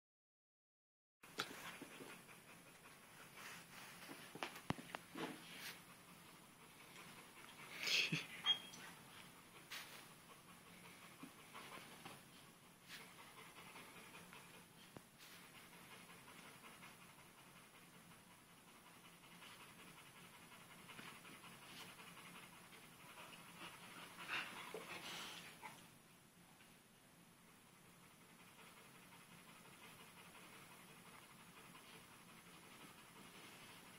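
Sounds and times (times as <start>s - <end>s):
puppy panting: 1.3s - 26.0s, 27.2s - 33.9s.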